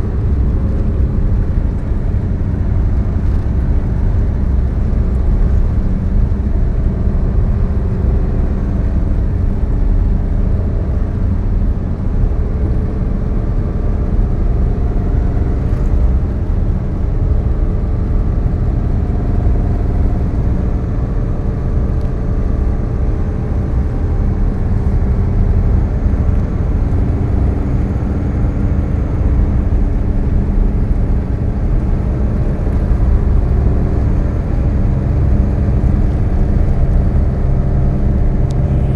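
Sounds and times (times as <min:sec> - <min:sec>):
car engine hum: 0:00.0 - 0:38.9.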